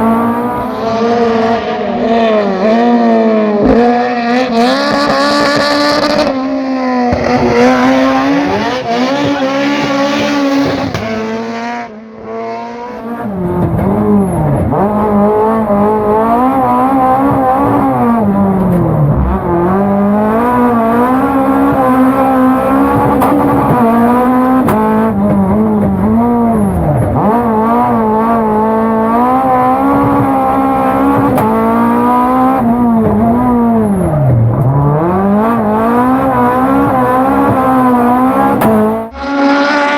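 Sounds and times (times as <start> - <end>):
rally car engine at hard pace: 0.0 - 39.9.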